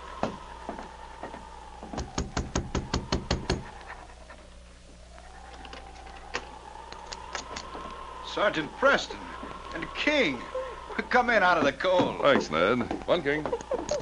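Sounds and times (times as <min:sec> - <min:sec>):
whistling winter wind: 0:00.0 - 0:14.0.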